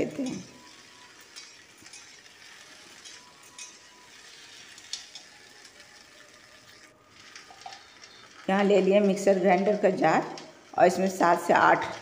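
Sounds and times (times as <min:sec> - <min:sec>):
okra sizzling in oil: 0:00.0 - 0:12.0
metal spatula scraping pan: 0:00.1 - 0:12.0.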